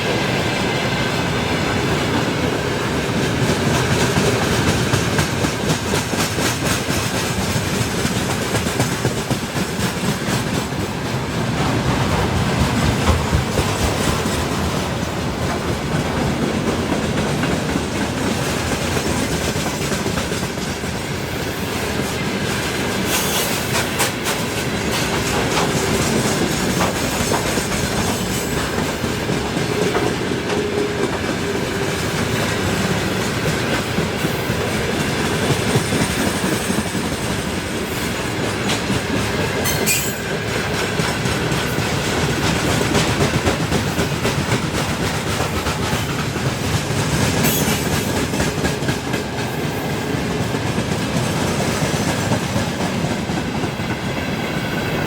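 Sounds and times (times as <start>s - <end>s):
freight train wheels clattering: 0.0s - 55.0s.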